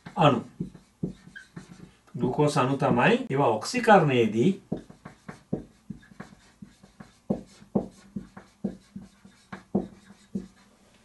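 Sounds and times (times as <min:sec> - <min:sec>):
marker writing on a whiteboard: 0:00.0 - 0:03.1, 0:04.5 - 0:10.7.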